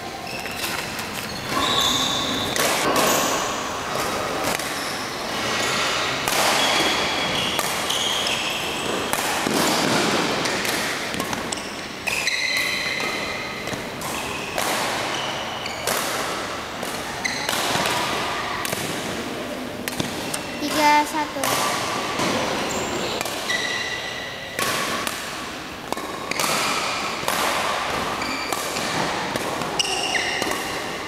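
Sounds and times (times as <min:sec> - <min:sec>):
racket striking shuttlecock: 0:02.4 - 0:04.8, 0:05.8 - 0:19.2, 0:19.8 - 0:31.0.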